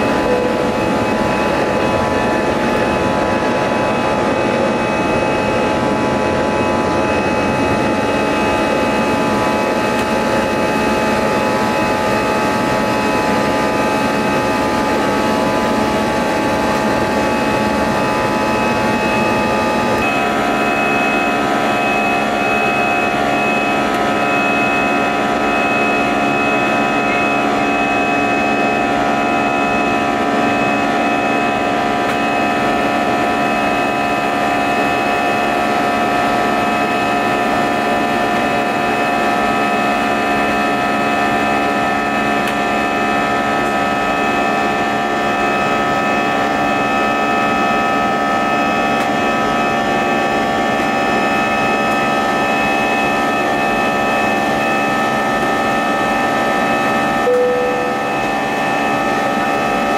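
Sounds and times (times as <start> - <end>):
fixed high tones: 0.0 - 14.8, 16.8 - 45.4, 48.4 - 59.9
jet engines and airflow in cabin: 0.0 - 59.9.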